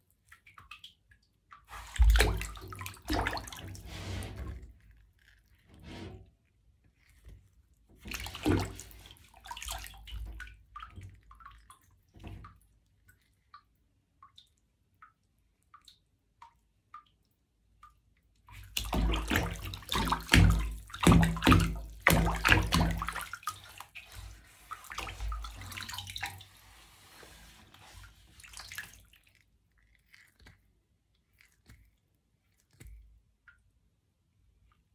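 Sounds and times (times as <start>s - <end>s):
water drips: 0.0s - 5.4s, 7.0s - 33.8s
water splashing in bathtub: 0.0s - 6.4s, 7.1s - 33.7s.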